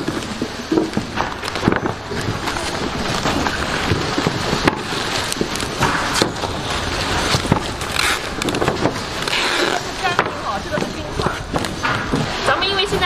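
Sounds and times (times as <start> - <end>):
packaging crackling and rustling: 0.0 - 13.0
sharp clicks and knocks: 0.0 - 13.0.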